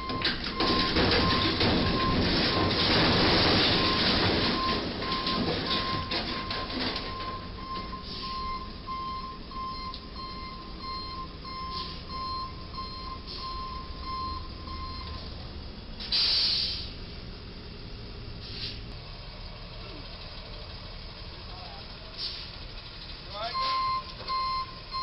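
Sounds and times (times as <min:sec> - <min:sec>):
low traffic rumble: 0:00.0 - 0:25.0.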